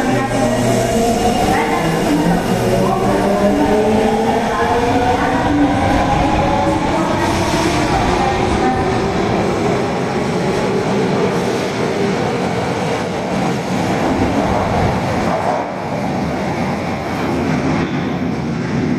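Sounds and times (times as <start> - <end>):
subway train rumbling: 0.0 - 18.9.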